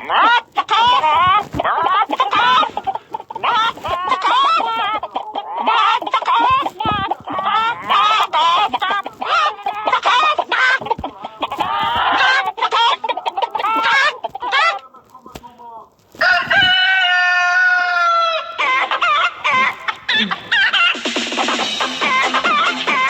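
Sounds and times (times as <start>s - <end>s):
chickens clucking ringtone: 0.0s - 23.0s.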